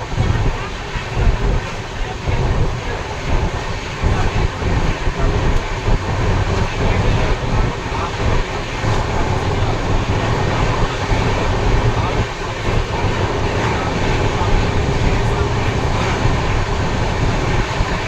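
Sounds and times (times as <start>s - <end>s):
moving vehicle rumbling: 0.0s - 18.0s.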